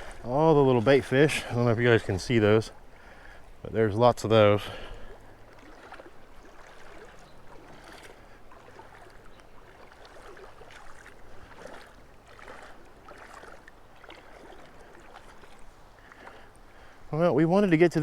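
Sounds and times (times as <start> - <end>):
legs wading through water: 0.0 - 18.0
river flowing: 0.0 - 18.0.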